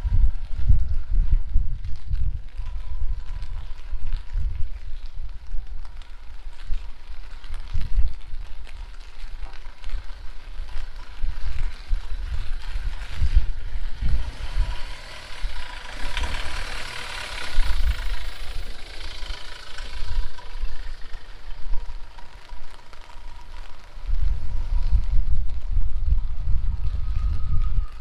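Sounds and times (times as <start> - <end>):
vehicle passing on wet street: 0.0 - 28.0
wind buffeting the microphone: 0.0 - 28.0
falling rain: 1.8 - 25.8.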